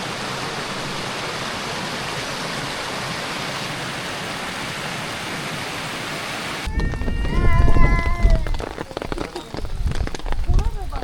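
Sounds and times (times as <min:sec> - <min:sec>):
waterfall roaring: 0:00.0 - 0:09.6.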